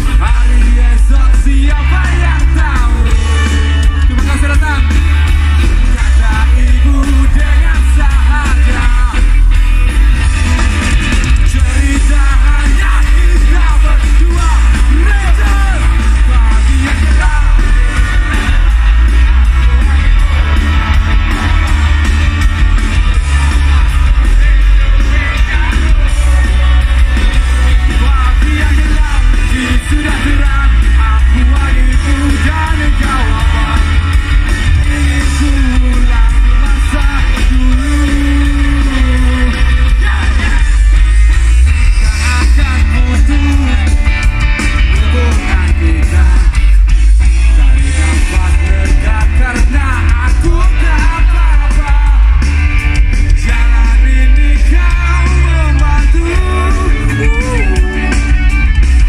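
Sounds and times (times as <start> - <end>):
person singing: 0.0 - 9.8, 11.3 - 58.6
live rock band playing: 0.0 - 59.0.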